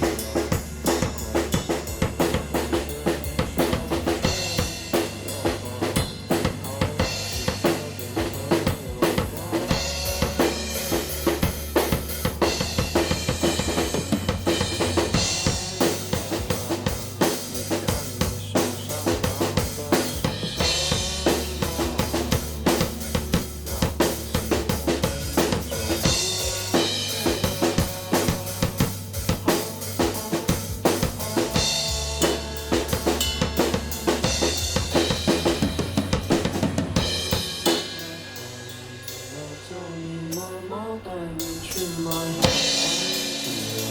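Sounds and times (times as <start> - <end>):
drum kit beat: 0.0 - 40.7, 41.3 - 43.9
sustained bass notes: 0.0 - 43.9.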